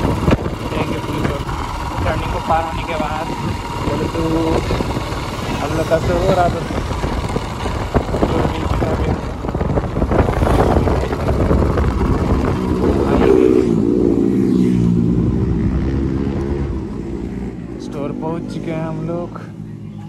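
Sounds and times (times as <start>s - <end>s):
wind rushing on microphone: 0.0s - 17.1s
motorcycle engine: 0.0s - 20.0s.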